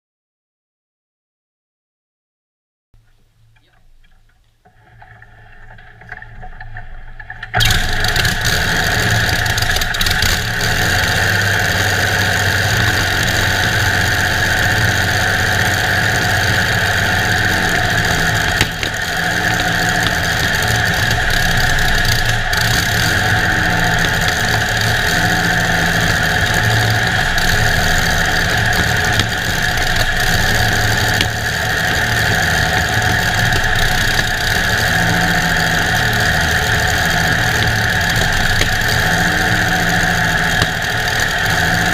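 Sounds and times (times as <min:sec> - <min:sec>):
aero engine starting and running: 0:04.8 - 0:41.9.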